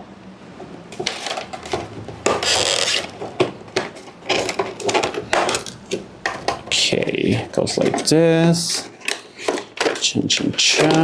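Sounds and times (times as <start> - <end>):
packaging being handled and opened: 0.6 - 11.0.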